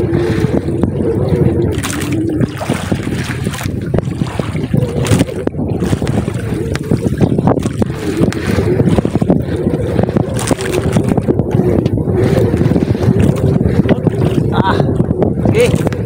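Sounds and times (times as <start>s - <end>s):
boat engine hum: 0.0s - 16.0s
wind buffeting microphone: 0.0s - 16.0s.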